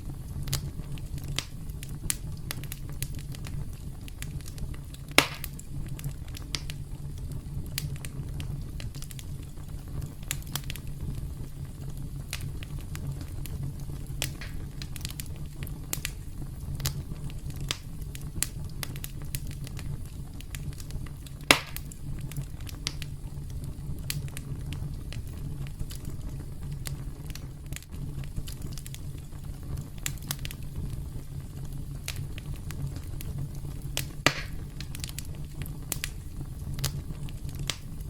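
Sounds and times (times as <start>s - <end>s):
burning wood crackles and pops: 0.0s - 38.0s
campfire flames rumbling: 0.0s - 38.0s.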